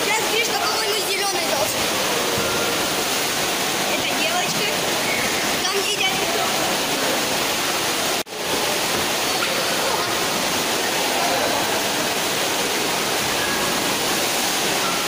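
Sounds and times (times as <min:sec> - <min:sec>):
water rushing into pool: 0:00.0 - 0:15.0.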